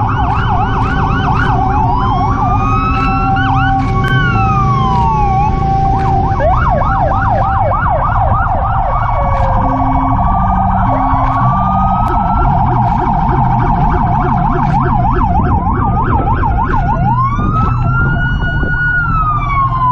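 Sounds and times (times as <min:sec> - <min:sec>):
emergency sirens yelping and wailing: 0:00.0 - 0:19.9
low engine rumble: 0:00.0 - 0:19.9.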